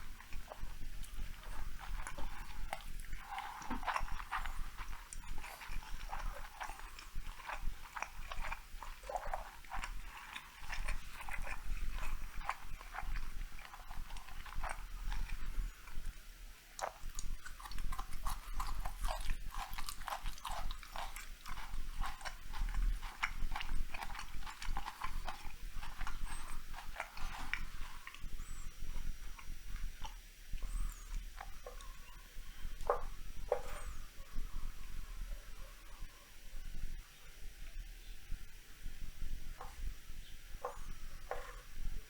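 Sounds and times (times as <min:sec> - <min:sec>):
chewing with wet mouth clicks: 0:00.0 - 0:35.7, 0:39.2 - 0:39.9, 0:40.6 - 0:41.9.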